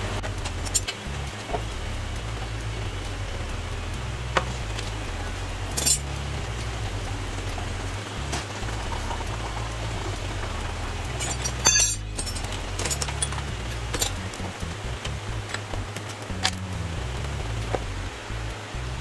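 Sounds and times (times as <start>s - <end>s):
sharp metallic clinks: 0.0s - 16.7s.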